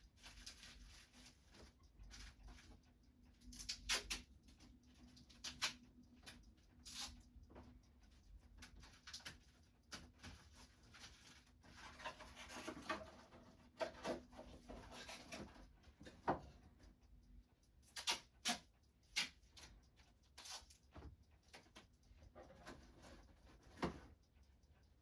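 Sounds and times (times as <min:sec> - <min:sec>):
small tools clicking and tapping: 0:00.0 - 0:25.0.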